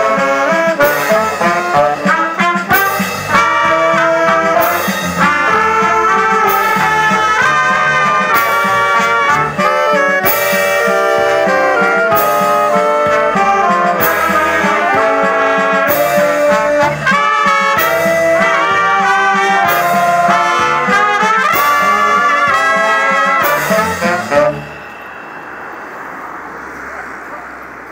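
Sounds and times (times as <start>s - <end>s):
wind band playing: 0.0s - 27.2s.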